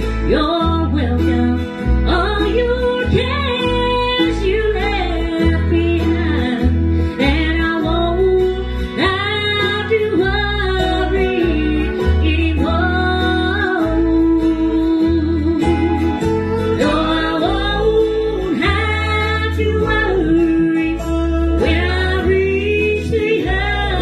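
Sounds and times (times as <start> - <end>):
bass line: 0.0 - 24.0
strummed acoustic guitar: 0.0 - 24.0.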